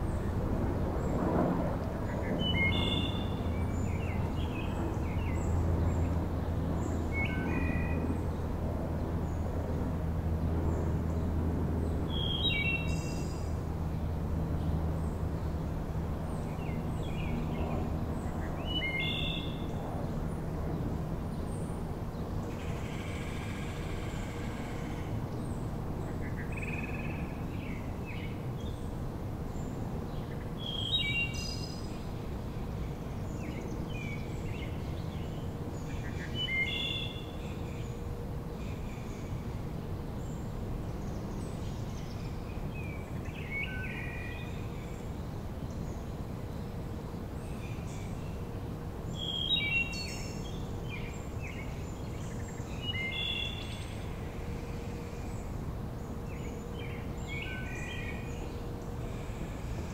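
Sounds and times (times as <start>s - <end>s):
low background noise: 0.0s - 59.9s.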